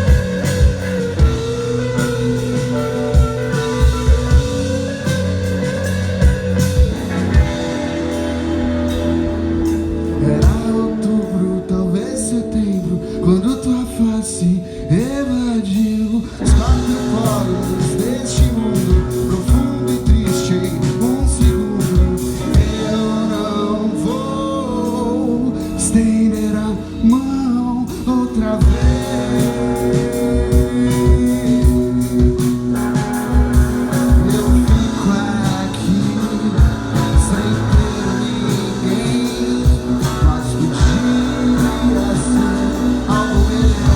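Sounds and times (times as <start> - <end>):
bass guitar: 0.0 - 43.9
drums: 0.0 - 43.9
electric guitars: 0.0 - 43.9
person singing: 0.0 - 43.9.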